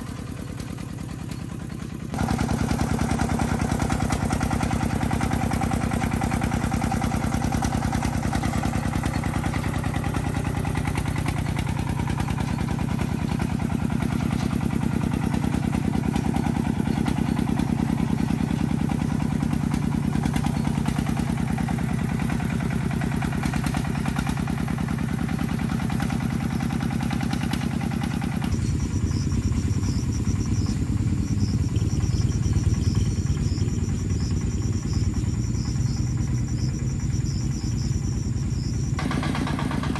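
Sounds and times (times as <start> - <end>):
farm vehicle engine chugging: 0.0 - 39.9.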